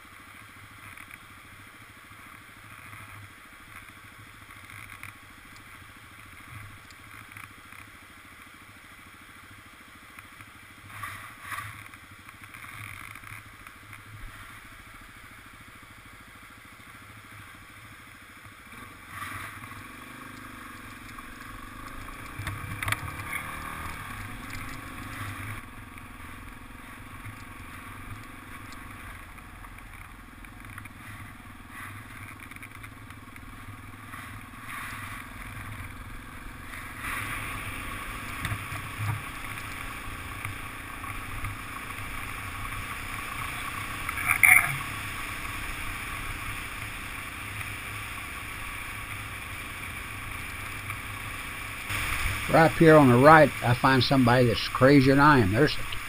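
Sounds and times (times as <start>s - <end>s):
motorcycle engine running: 0.0s - 56.0s
creek water rushing: 8.7s - 56.0s.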